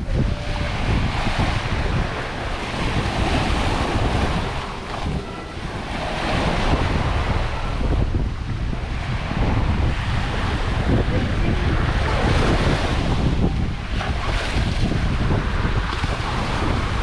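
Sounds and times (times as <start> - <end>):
sea waves washing onto beach: 0.0 - 17.0
wind rumbling on microphone: 0.0 - 17.0.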